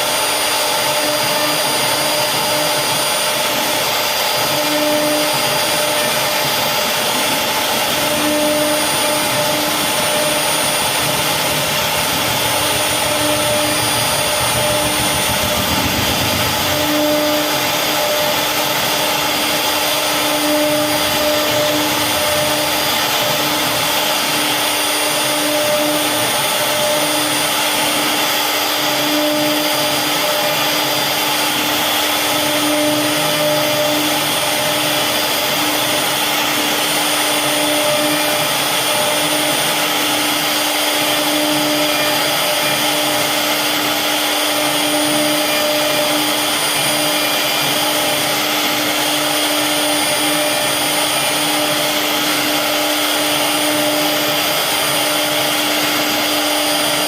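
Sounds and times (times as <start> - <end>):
router spindle carving wood: 0.0 - 57.0.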